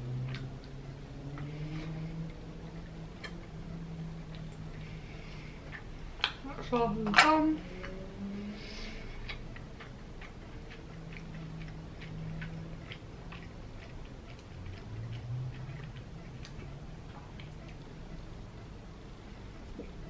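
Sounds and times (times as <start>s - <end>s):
person chewing food: 0.0s - 6.4s, 7.6s - 20.0s.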